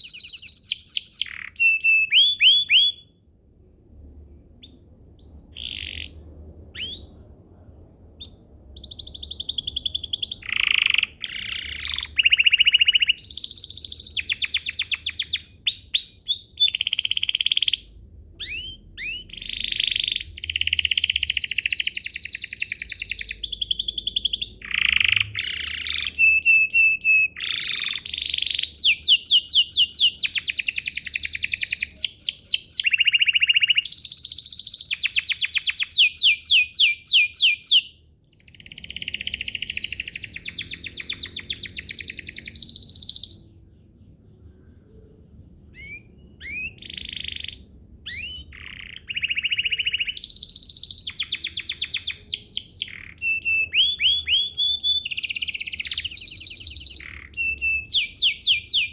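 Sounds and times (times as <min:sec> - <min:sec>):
canary singing trills: 0:00.0 - 0:03.2, 0:04.6 - 0:07.4, 0:08.2 - 0:58.9.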